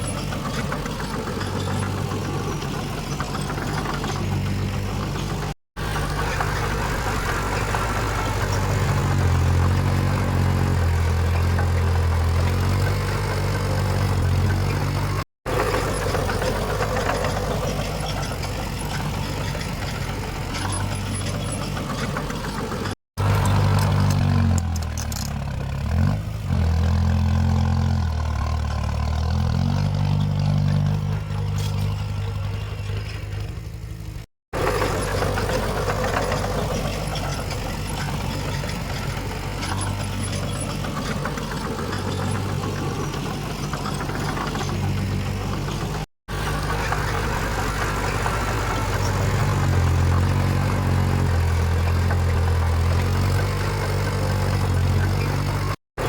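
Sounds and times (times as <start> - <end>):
engine working under load: 0.0 - 56.0
heavy machinery diesel engines: 0.0 - 56.0.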